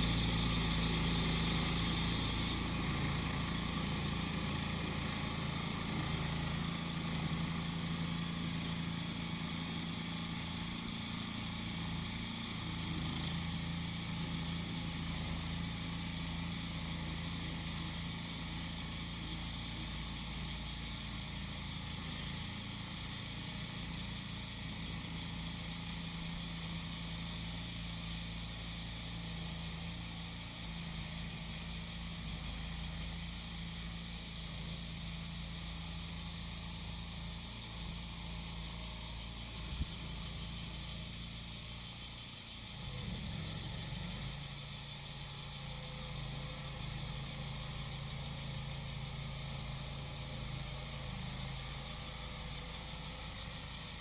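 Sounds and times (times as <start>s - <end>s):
cicadas buzzing: 0.0s - 54.0s
lawn mower engine running: 0.0s - 54.0s.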